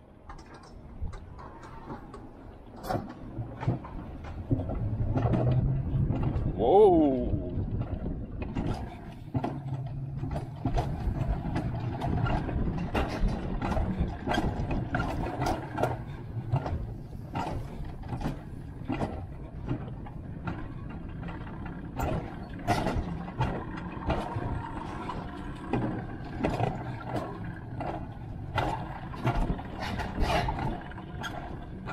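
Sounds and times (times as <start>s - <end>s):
sled wheels rolling rumble: 0.0s - 31.9s
sharp clacks and knocks: 0.2s - 6.5s, 7.7s - 31.9s.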